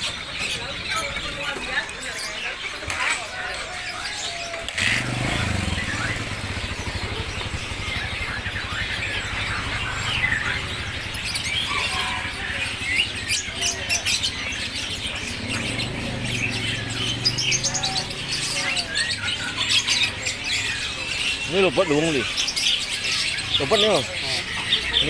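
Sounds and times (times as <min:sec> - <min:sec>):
songbirds chirping and calling: 0:00.0 - 0:25.0.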